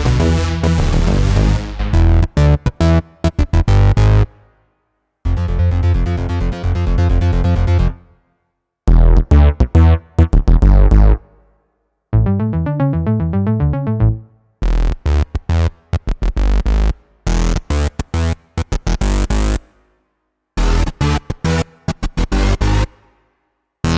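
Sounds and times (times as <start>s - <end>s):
synth bass riffs: 0.0s - 4.3s, 5.3s - 8.0s, 8.9s - 11.4s, 12.1s - 19.6s, 20.6s - 22.9s.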